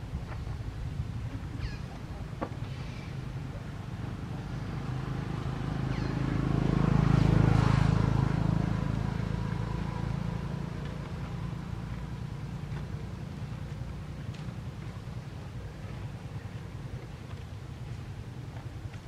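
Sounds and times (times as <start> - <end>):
passing vehicle engine: 1.6 - 19.0.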